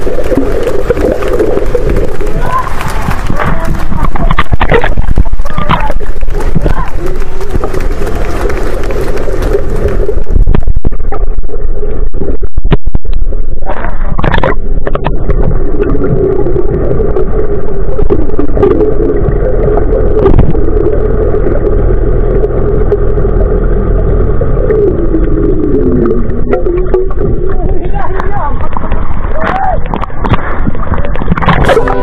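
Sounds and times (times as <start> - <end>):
motor humming underwater: 0.0 - 32.0
underwater knocks and rushes: 0.0 - 32.0.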